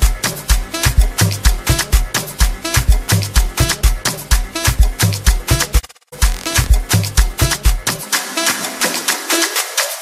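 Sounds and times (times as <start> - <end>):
house music with kick drum: 0.0 - 10.0.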